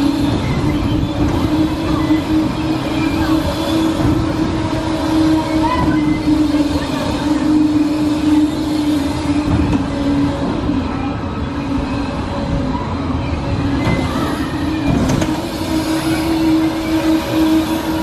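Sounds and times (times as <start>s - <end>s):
ride machinery humming: 0.0s - 18.0s.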